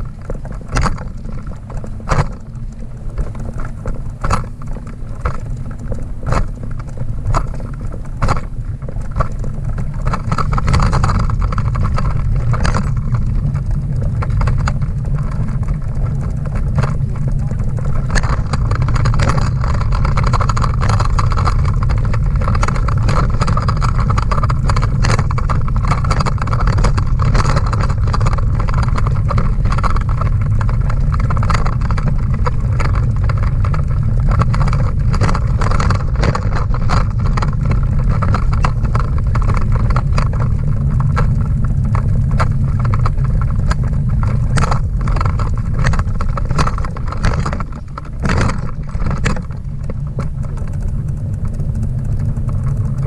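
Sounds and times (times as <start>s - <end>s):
rattles and knocks: 0.0s - 53.0s
trailer wheels rumbling: 0.0s - 53.0s.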